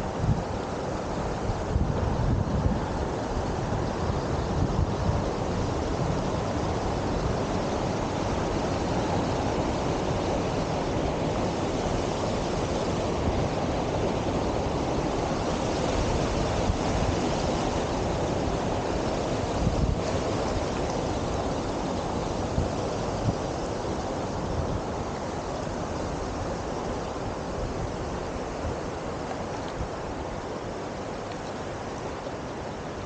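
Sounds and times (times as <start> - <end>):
river water rushing over weir: 0.0 - 33.0.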